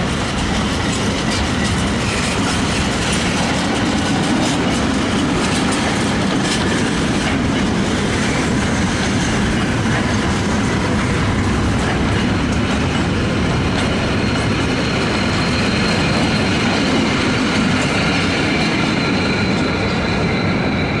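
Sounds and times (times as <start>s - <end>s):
wheels clattering over rails: 0.0s - 20.4s
train wagons rumbling past: 0.0s - 21.0s.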